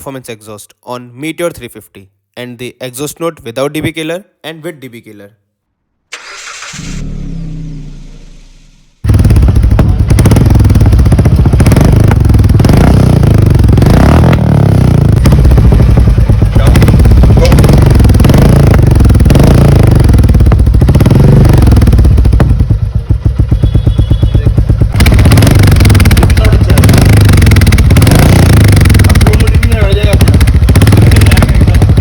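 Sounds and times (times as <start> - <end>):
motorcycle engine revving: 6.2 - 32.0.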